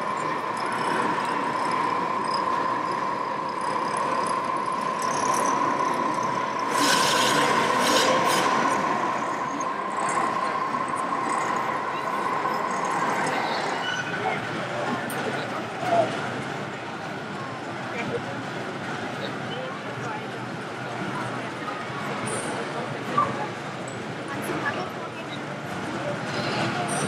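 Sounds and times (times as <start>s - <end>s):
exhibition hall din: 0.0s - 27.0s.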